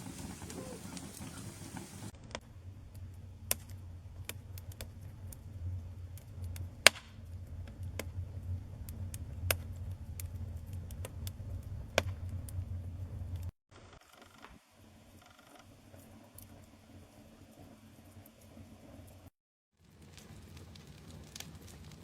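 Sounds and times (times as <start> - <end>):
campfire crackling and popping: 0.0 - 13.5, 14.4 - 22.0.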